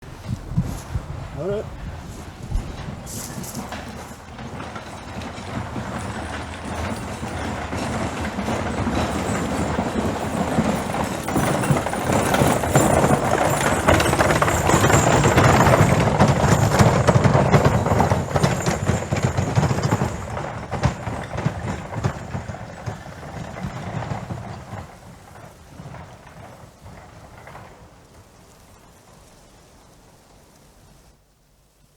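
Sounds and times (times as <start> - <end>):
horse hoofbeats clattering: 0.0 - 30.6.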